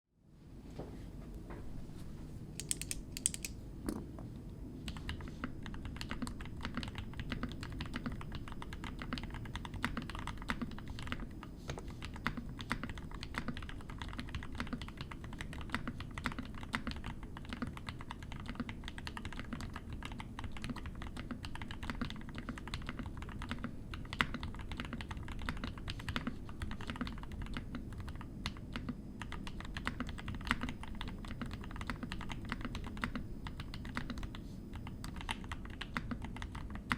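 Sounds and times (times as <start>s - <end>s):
mechanical keyboard typing: 2.6s - 3.6s, 4.9s - 11.4s, 12.0s - 36.9s.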